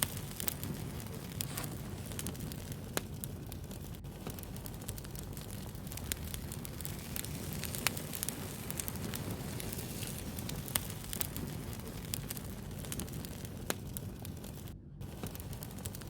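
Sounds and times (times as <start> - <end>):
fire crackles and pops: 0.0 - 16.0
rush of flames: 0.0 - 16.0.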